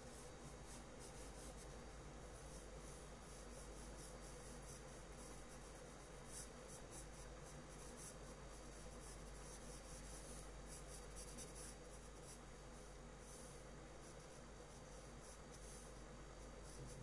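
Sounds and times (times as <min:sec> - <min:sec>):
drawing tool scratching paper: 0:00.0 - 0:17.0
low steady hum: 0:00.0 - 0:17.0.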